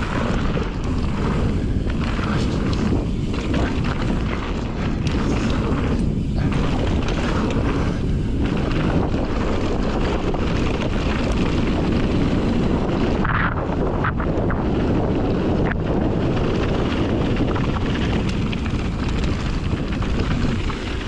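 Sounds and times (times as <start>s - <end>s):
bike rattles and knocks: 0.0s - 21.0s
bike tyre noise: 0.0s - 21.0s
wind rushing over microphone: 0.0s - 21.0s.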